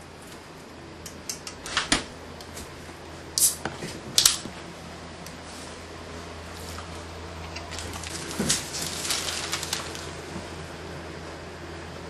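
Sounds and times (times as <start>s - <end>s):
refrigerator hum: 0.0s - 12.0s.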